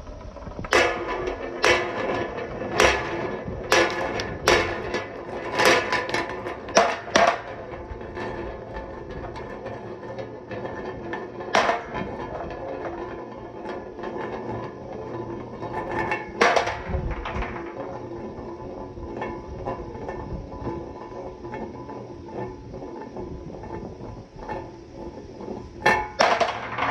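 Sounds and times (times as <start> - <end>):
marbles rolling down wooden track: 0.0 - 26.9.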